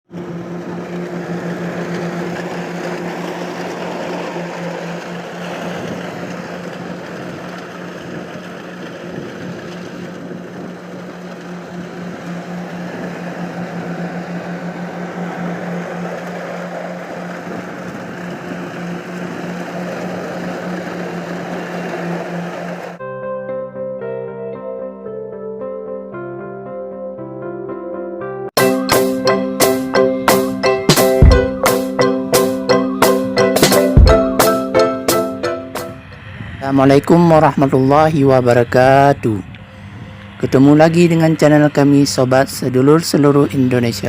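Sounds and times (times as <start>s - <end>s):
combine harvester engine droning: 0.1s - 23.0s, 28.6s - 44.0s.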